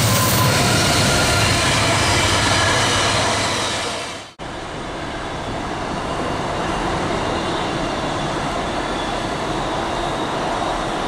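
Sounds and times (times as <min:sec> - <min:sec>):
diesel train rumbling: 0:00.0 - 0:11.0
train wagons rolling past: 0:00.0 - 0:11.0.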